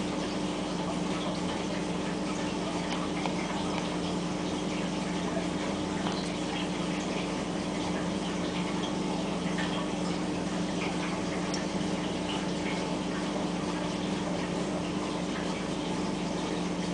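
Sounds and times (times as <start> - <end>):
aquarium water running: 0.0 - 16.9
pump humming: 0.0 - 16.9.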